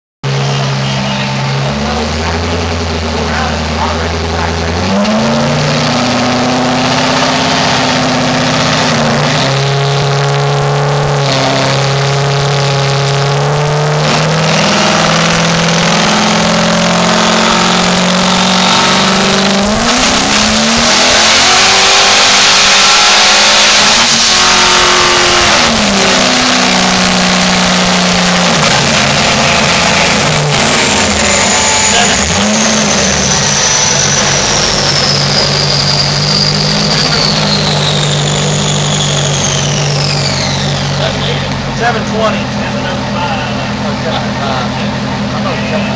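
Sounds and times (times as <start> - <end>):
car engine revving under load: 0.2 - 45.9
high whine: 0.2 - 45.9.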